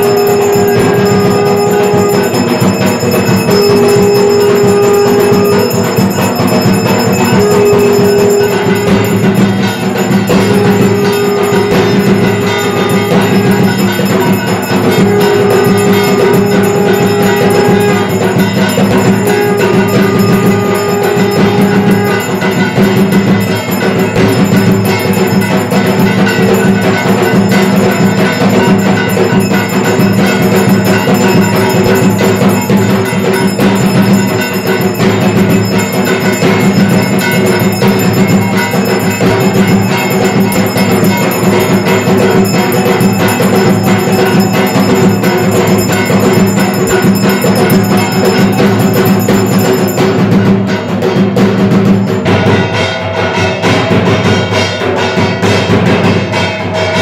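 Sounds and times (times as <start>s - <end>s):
held tones: 0.0s - 50.4s
hand bell ringing rapidly: 0.0s - 57.0s
percussion: 0.0s - 57.0s.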